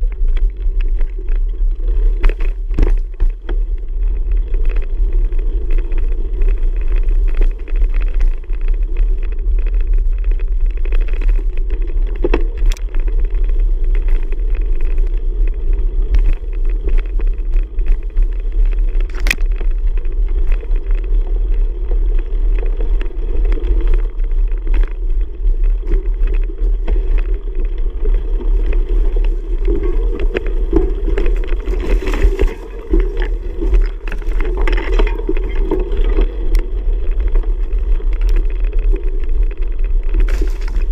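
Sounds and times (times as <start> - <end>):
bicycle rattling clicks and knocks: 0.0 - 40.9
wind rumbling on microphone: 0.0 - 40.9.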